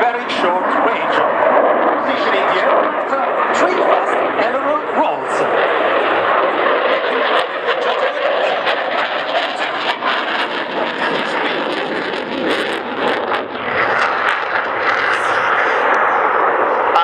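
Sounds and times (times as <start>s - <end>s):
jet engines roaring with crackles: 0.0s - 17.0s.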